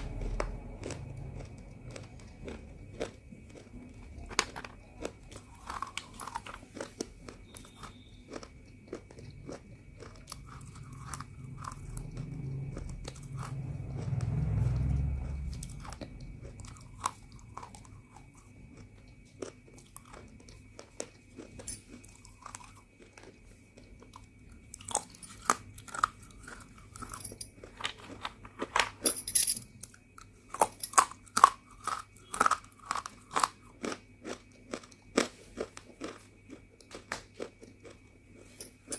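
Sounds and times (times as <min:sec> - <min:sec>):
clay crunching while chewed: 0:00.0 - 0:28.8, 0:29.8 - 0:38.9.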